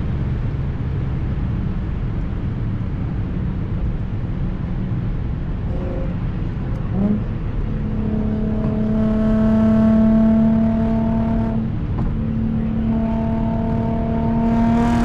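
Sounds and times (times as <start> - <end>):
car engine and exhaust under load: 0.0 - 15.0.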